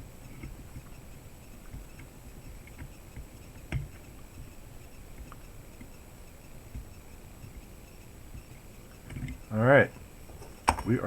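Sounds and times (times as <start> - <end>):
thin high-pitched whine: 0.0 - 11.0.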